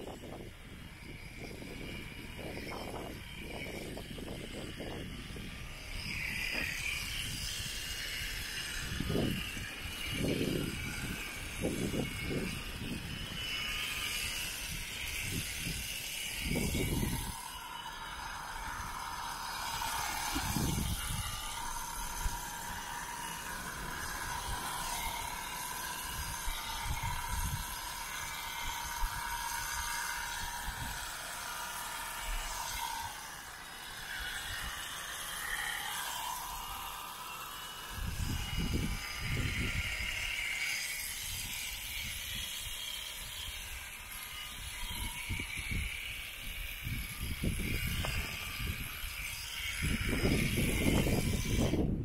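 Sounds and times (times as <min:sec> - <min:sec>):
electric shears whirring: 0:00.0 - 0:52.0.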